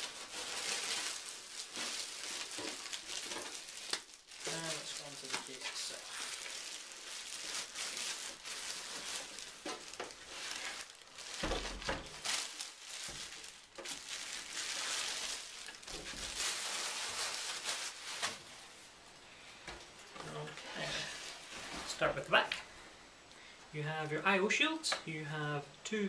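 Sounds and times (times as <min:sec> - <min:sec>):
plastic wrapping rustling: 0:00.0 - 0:23.2.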